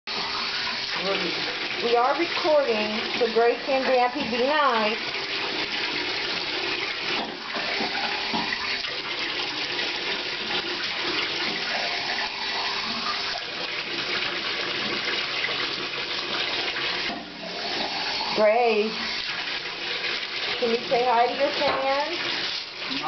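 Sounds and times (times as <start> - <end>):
water running into bathtub: 0.1 - 23.0.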